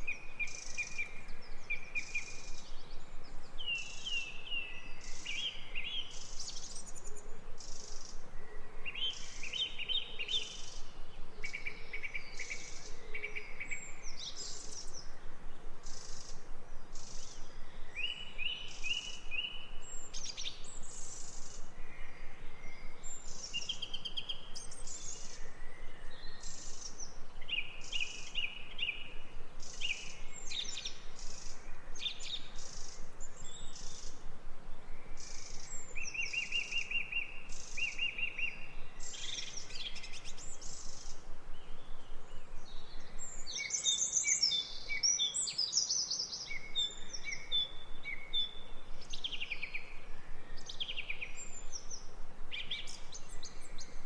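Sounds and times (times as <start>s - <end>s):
faint outdoor hiss: 0.0s - 54.0s
songbirds singing: 0.0s - 54.0s.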